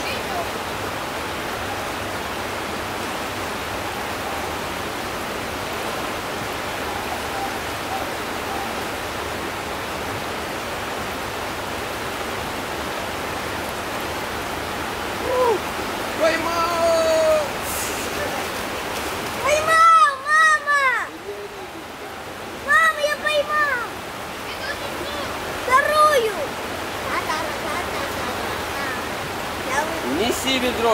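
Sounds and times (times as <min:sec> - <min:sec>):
river water rushing: 0:00.0 - 0:30.9.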